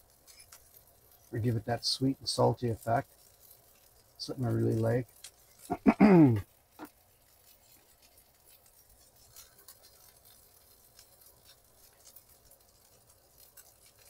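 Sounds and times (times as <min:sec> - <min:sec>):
burgers sizzling in a skillet: 0:00.0 - 0:14.0.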